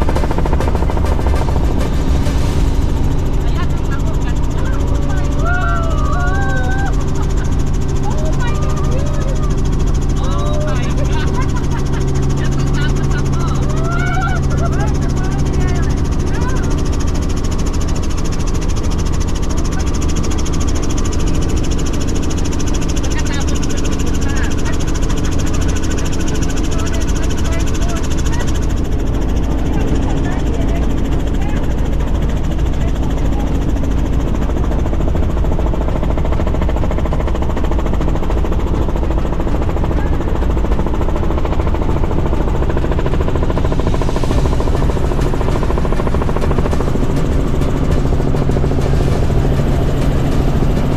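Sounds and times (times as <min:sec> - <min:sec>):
helicopter engine and rotor: 0:00.0 - 0:50.9.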